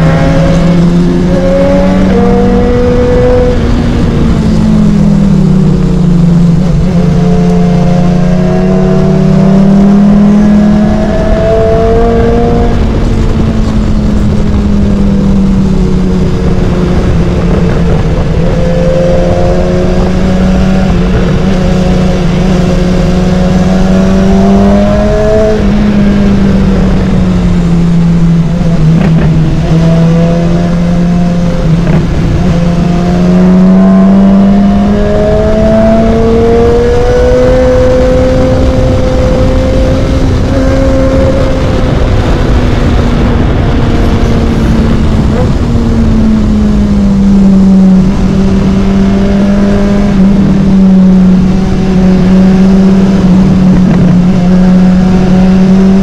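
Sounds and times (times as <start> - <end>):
motorcycle engine revving: 0.0 - 56.0
wind rush over microphone: 0.0 - 56.0.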